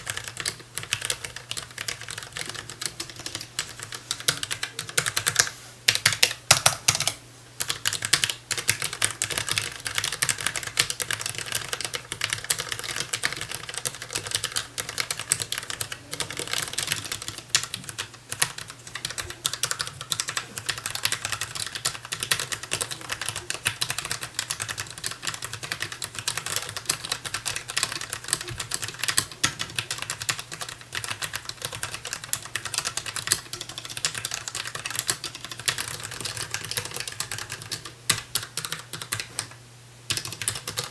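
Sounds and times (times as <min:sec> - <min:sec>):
mechanical keyboard typing: 0:00.0 - 0:39.5, 0:40.1 - 0:40.9.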